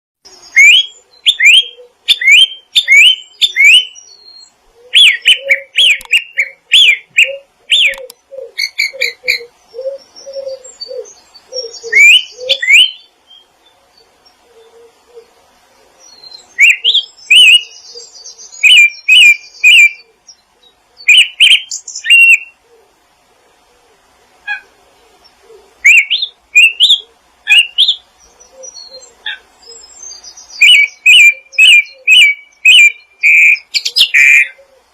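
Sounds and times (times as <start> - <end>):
small birds chirping and singing: 0.2 - 23.2, 24.0 - 34.9
lower repeated bird calls: 0.2 - 34.9.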